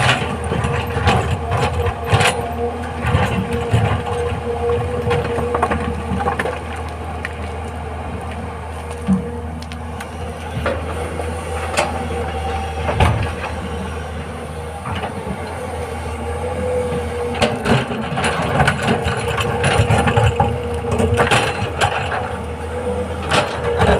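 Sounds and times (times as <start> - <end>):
excavator diesel engine: 0.0 - 23.9
hydraulic whine: 0.0 - 23.9.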